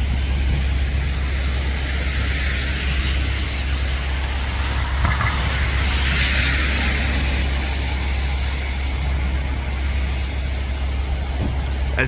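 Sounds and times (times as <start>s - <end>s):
low traffic rumble: 0.0s - 12.0s
tyre hiss on wet road: 0.2s - 12.0s.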